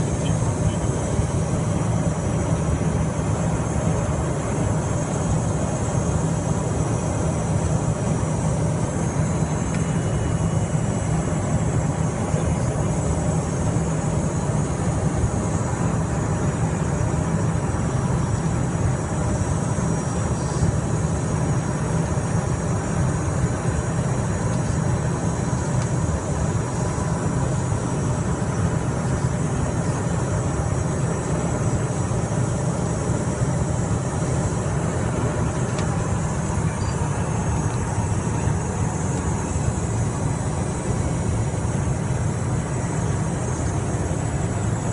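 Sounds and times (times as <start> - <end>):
high steady whine: 0.0 - 44.9
jet cabin rumble: 0.0 - 44.9.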